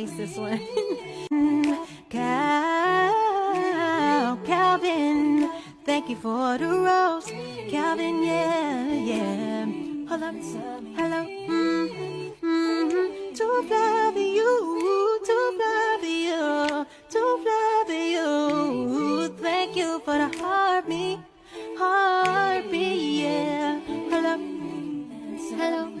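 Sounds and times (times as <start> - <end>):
person singing unaccompanied: 0.0 - 26.0.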